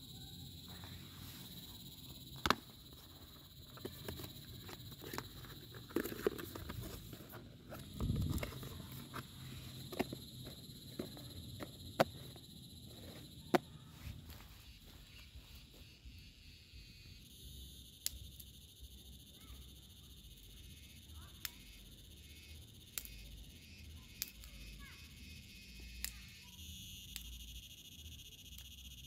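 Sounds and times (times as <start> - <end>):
faint insect hum: 0.0 - 29.0.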